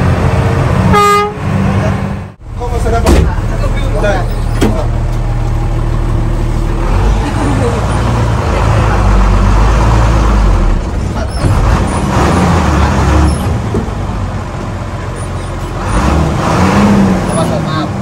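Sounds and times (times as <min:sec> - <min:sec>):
diesel bus engine: 0:00.0 - 0:18.0.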